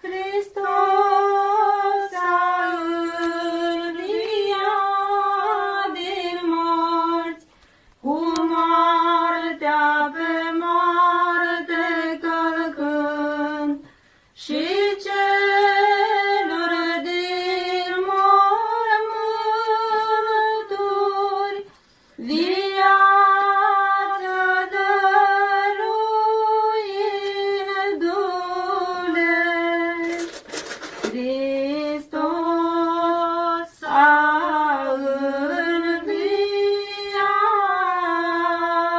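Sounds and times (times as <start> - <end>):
woman singing chant: 0.0 - 30.3, 31.1 - 38.9.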